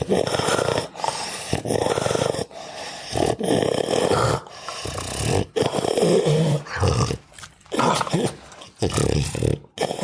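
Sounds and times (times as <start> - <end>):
dog snoring: 0.0 - 10.0.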